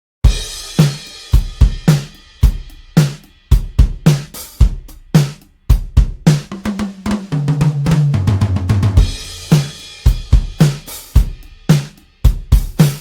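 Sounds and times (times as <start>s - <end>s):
drum kit beat: 0.2s - 13.0s
drum fill with ringing toms: 0.3s - 13.0s.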